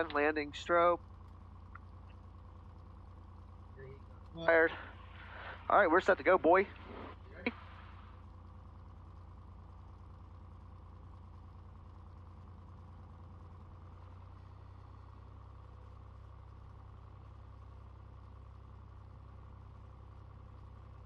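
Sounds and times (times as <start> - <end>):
piston aircraft engine drone: 0.0 - 21.0.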